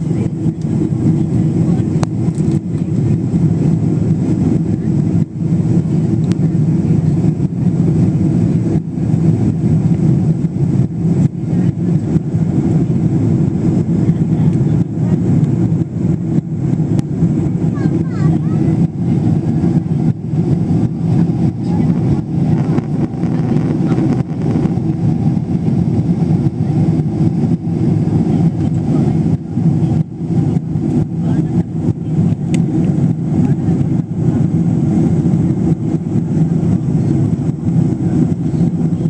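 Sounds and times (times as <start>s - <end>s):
jet engine drone in cabin: 0.0s - 39.0s.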